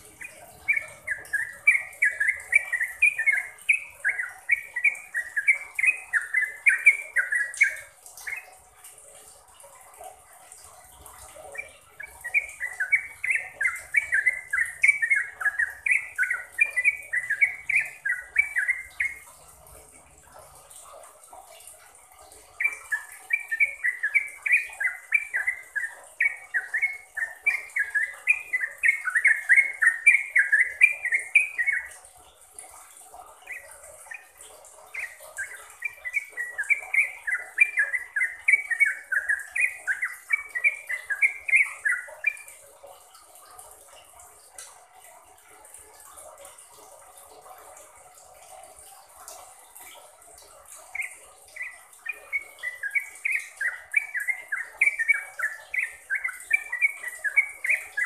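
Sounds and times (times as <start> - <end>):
bulbul singing: 0.0 - 44.6, 47.8 - 58.0.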